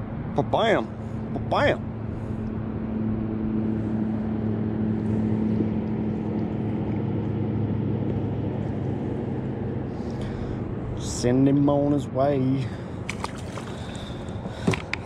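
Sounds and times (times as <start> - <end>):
engine humming: 0.9 - 11.2, 12.7 - 15.0.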